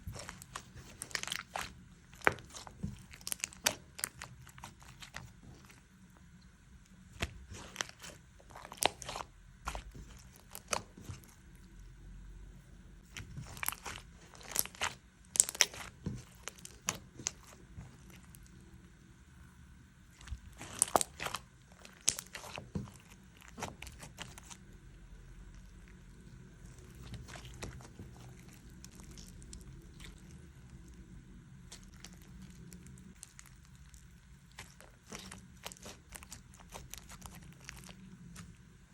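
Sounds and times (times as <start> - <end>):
slime crackling and popping: 0.0 - 5.8, 7.0 - 11.4, 13.0 - 18.5, 20.1 - 24.6, 25.6 - 31.0, 31.6 - 38.6.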